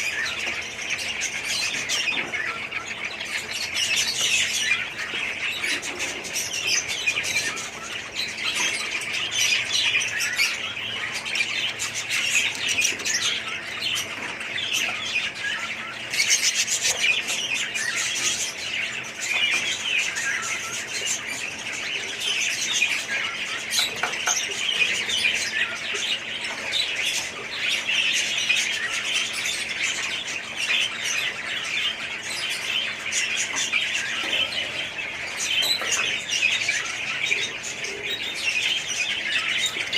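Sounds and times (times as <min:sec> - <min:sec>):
parrots chattering and chirping: 0:00.0 - 0:39.9.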